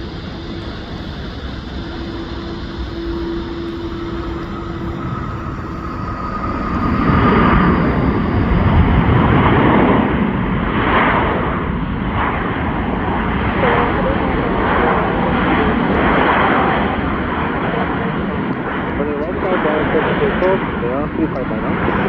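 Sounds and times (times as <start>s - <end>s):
jet engines whining and rushing: 0.0s - 22.0s.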